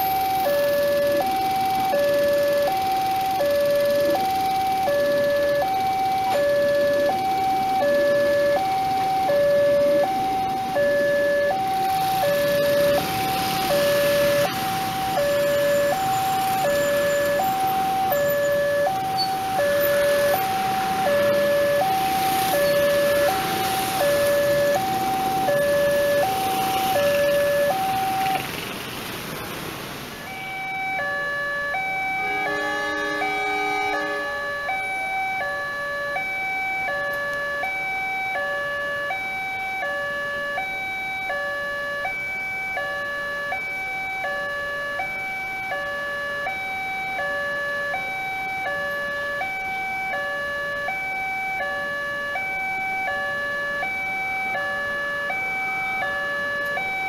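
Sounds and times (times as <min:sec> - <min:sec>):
level crossing two-tone alarm: 0:00.0 - 0:28.5, 0:30.2 - 0:57.0
motorcycle traffic: 0:00.0 - 0:57.0.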